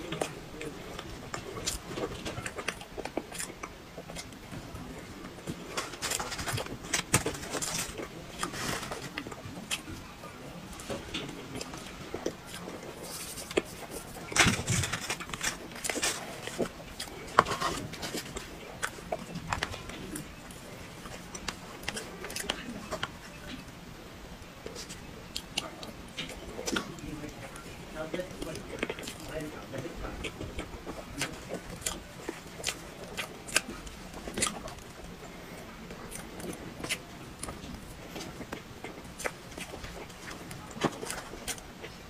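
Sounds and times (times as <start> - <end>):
chewing and wet mouth noises: 0.0 - 42.0.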